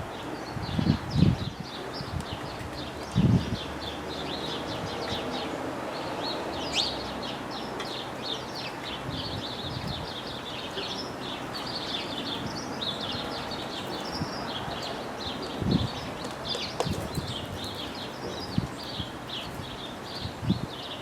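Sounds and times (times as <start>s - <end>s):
small songbirds chirping: 0.0s - 21.0s
steady background noise: 0.0s - 21.0s.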